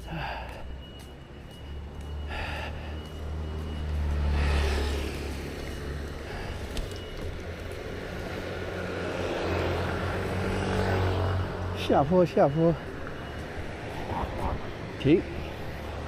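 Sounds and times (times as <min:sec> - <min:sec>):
vehicle passing: 0:00.2 - 0:16.0.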